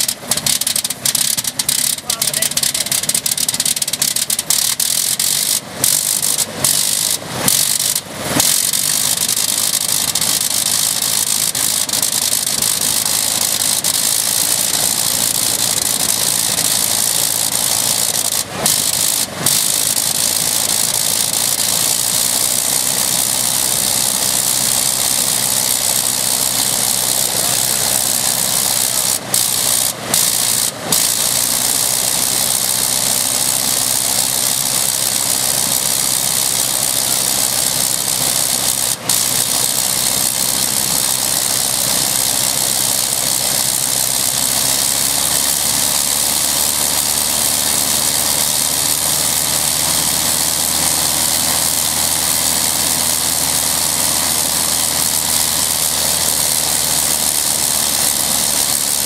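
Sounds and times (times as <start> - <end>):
rotary aircraft engine running: 0.0 - 59.0.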